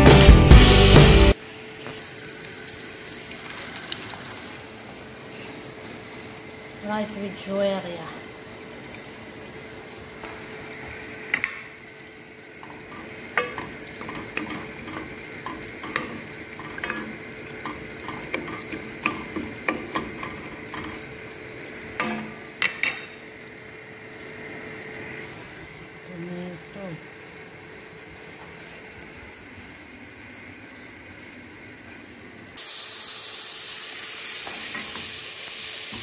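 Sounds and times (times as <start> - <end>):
rice boiling in a pot: 1.4 - 36.0.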